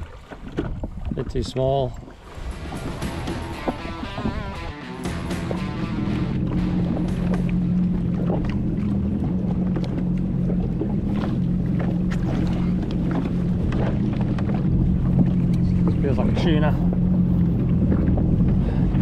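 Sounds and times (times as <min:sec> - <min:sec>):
jet ski engine idling: 0:02.4 - 0:19.0.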